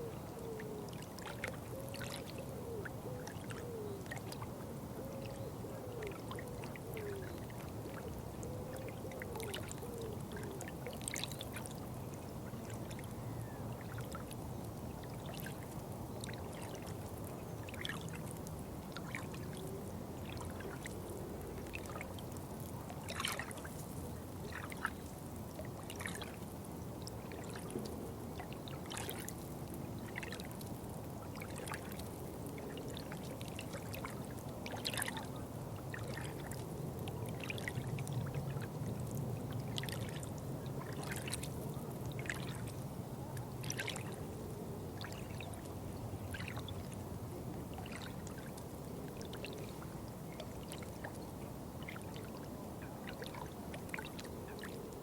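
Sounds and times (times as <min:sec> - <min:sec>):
small splashes and drips: 0:00.9 - 0:02.4, 0:06.0 - 0:44.2, 0:45.0 - 0:47.0, 0:47.7 - 0:51.2, 0:51.8 - 0:55.0.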